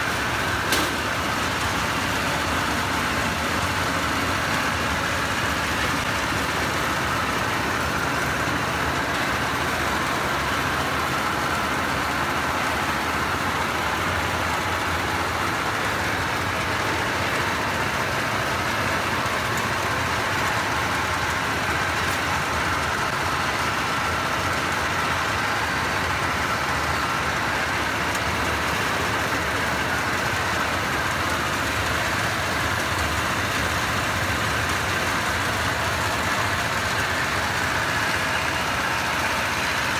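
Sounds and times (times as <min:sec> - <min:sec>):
high steady whine: 0:00.0 - 0:39.9
threshing machine engine drone: 0:00.0 - 0:39.9.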